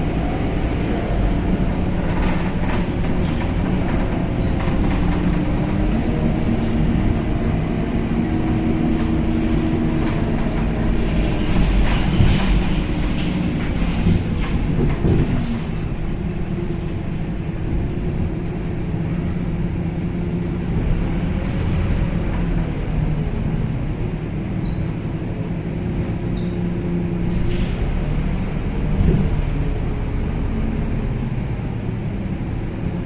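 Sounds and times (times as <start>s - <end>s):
bus engine drone: 0.0s - 33.0s
road rumble: 0.0s - 33.0s.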